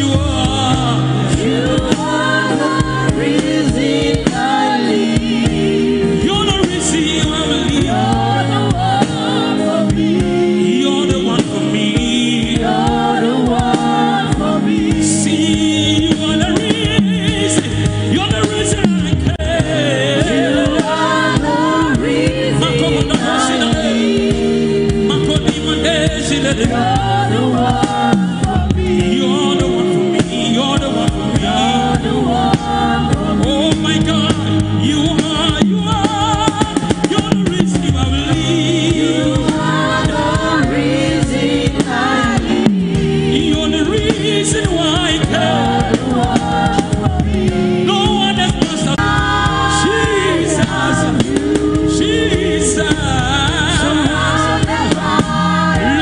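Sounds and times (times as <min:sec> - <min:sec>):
singers leading a gospel song: 0:00.0 - 0:56.0
sustained accompaniment: 0:00.0 - 0:56.0.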